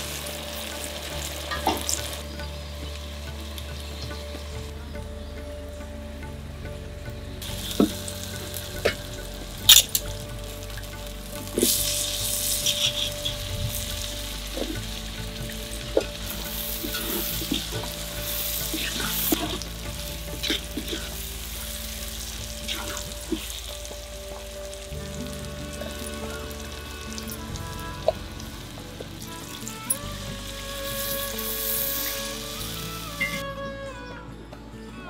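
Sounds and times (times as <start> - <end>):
masala sizzling in oil: 0.0 - 4.1, 7.4 - 33.4.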